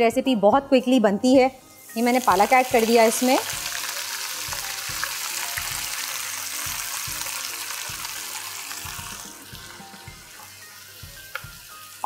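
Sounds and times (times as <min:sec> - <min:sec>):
background music with steady beat: 0:00.0 - 0:12.0
spinach sizzling in hot oil: 0:01.7 - 0:12.0.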